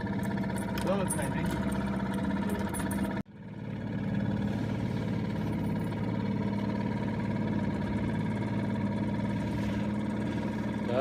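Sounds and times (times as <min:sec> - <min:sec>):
outboard motor humming: 0:00.0 - 0:11.0.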